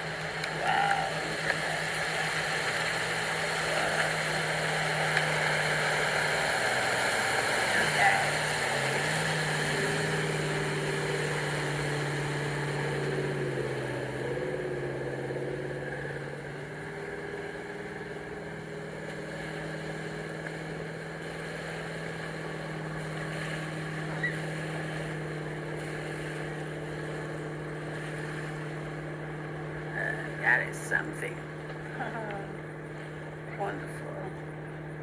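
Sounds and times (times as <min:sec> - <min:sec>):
motorboat engine running: 0:00.0 - 0:35.0.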